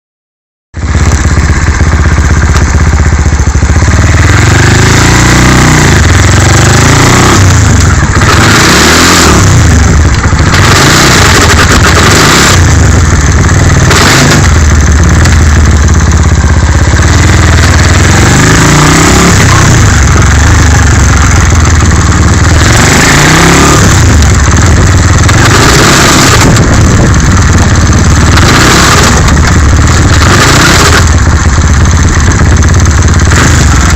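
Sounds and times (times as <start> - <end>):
engine clatter: 0.8 - 33.9
motorcycle engine revving: 0.8 - 33.9.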